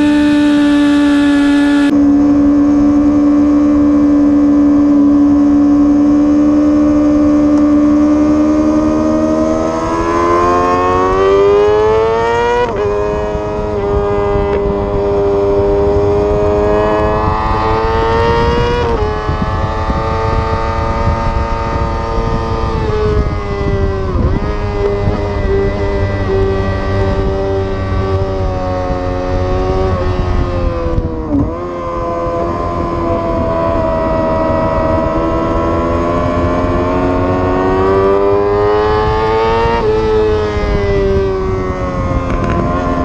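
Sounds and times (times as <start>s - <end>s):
motorcycle engine revving: 0.0s - 43.0s
wind rush over microphone: 0.0s - 43.0s.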